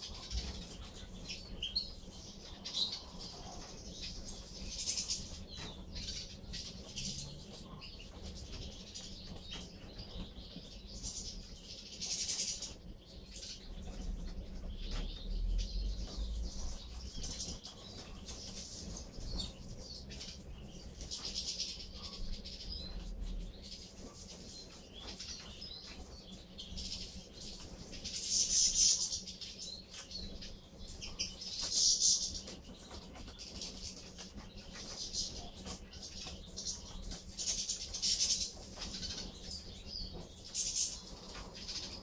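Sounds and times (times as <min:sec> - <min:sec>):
finches twittering and chirping: 0:00.0 - 0:42.0.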